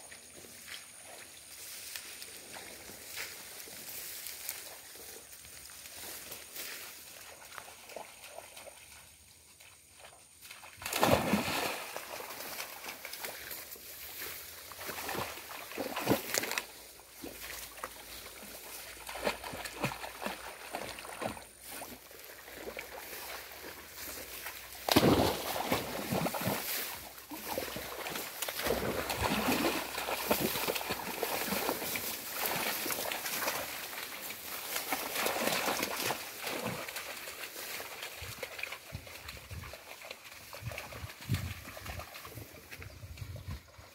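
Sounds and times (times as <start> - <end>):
rustling through tall grass: 0.1 - 7.8, 10.9 - 43.9
dogs splashing through water: 0.3 - 43.9.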